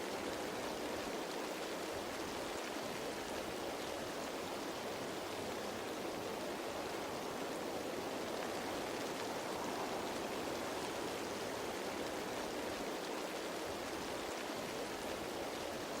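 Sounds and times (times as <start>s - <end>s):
rain falling on leaves: 0.0s - 16.0s.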